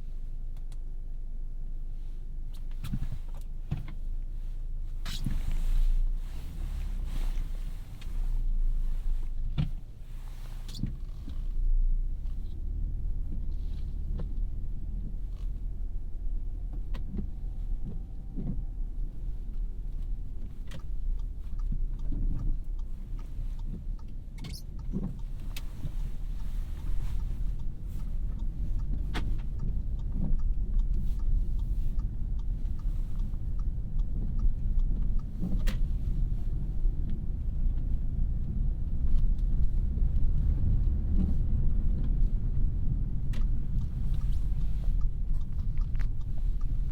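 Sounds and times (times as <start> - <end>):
car engine and road noise: 0.0 - 46.9.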